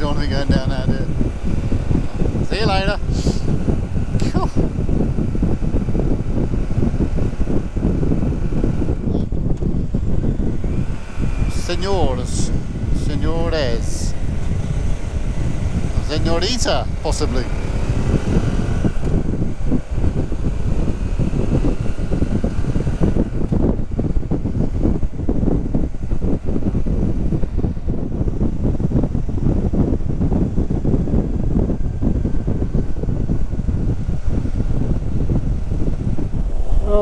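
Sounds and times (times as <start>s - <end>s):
motorcycle engine running: 0.0s - 37.0s
wind buffeting microphone: 0.0s - 37.0s.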